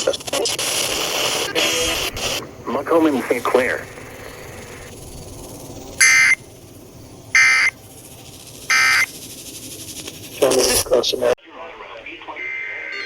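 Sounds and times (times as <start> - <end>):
harsh data bursts: 0.0 - 11.4
faint radio hiss: 0.0 - 13.0.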